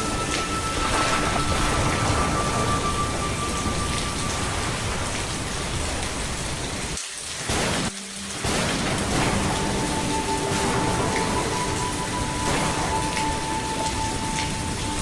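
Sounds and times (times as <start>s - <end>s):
low rumble of thunder: 0.0s - 6.9s, 7.5s - 15.0s
heavy rain: 0.0s - 15.0s.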